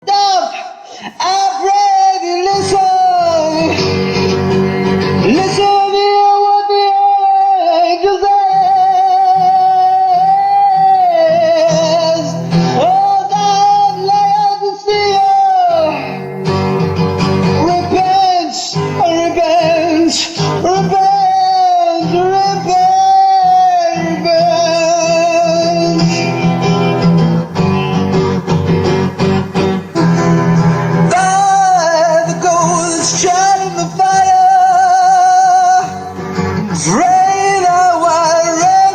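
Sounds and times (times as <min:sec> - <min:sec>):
guitar accompaniment: 0:00.0 - 0:38.9
person singing with vibrato: 0:00.0 - 0:38.9.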